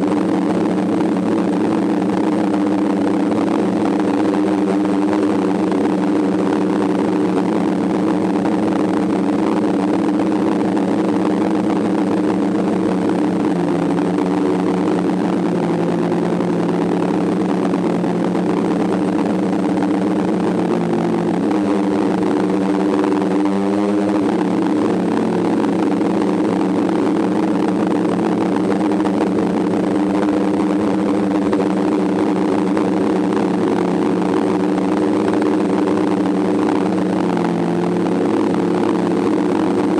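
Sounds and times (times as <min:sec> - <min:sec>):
drone propellers droning: 0:00.0 - 0:39.9.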